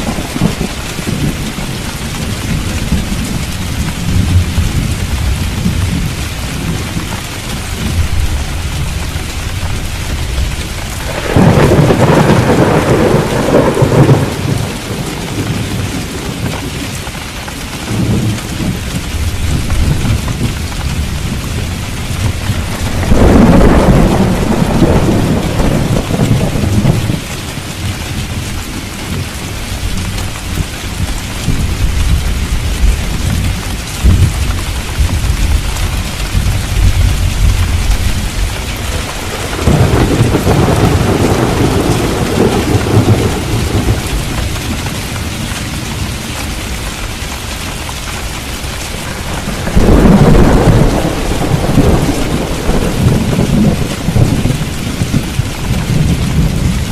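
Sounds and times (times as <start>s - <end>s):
thunder rumbling: 0.0s - 47.2s, 47.8s - 56.9s
heavy rain: 0.0s - 56.9s.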